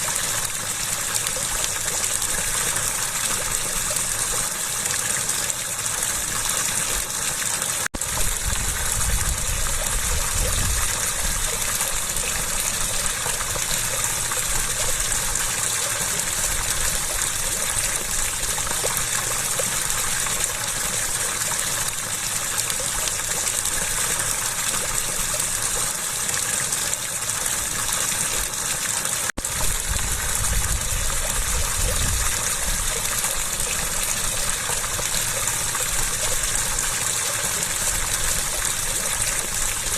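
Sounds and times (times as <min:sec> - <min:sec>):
water gushing: 0:00.0 - 0:39.9.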